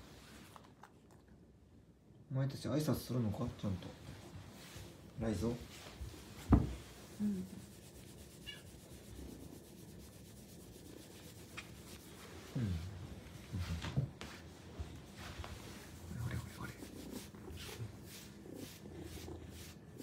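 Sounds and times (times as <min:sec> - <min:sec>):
hand rubbing cat fur: 0:03.8 - 0:20.0.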